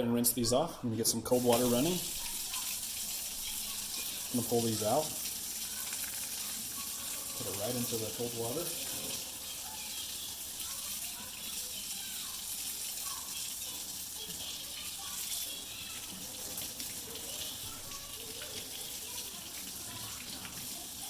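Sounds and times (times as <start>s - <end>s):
faucet running into sink: 1.2s - 21.0s.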